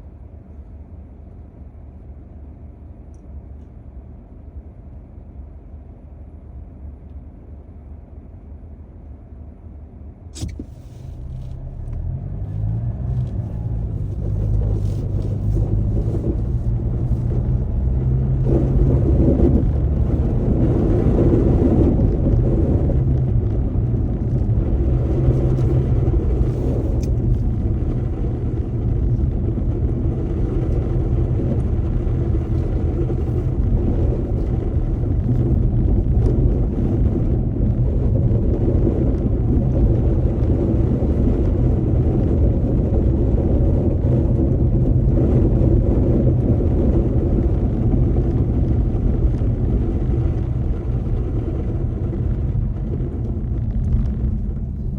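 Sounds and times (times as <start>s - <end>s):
car engine and road rumble: 0.0s - 54.9s
steady low hum: 0.0s - 54.9s.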